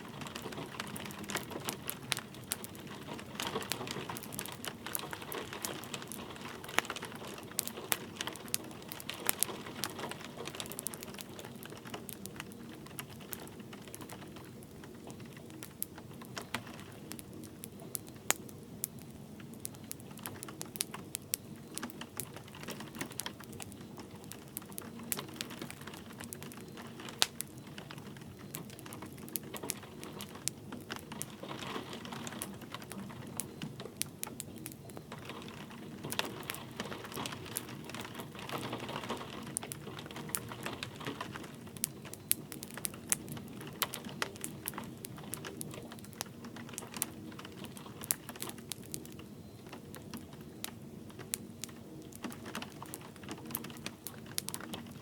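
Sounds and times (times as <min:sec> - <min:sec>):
light rain pattering: 0:00.0 - 0:55.0
wood fire crackling and popping: 0:00.0 - 0:55.0.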